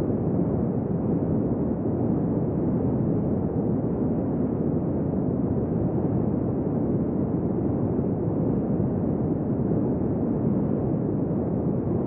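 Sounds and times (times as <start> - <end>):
wind blowing steadily: 0.0 - 12.0.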